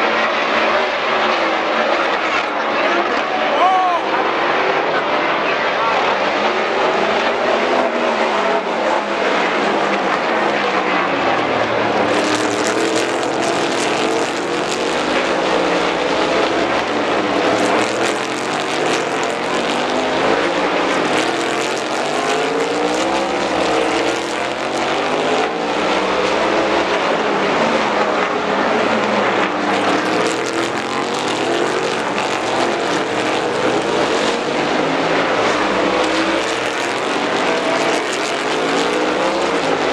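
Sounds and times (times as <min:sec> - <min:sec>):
race car engines passing: 0:00.0 - 0:39.9.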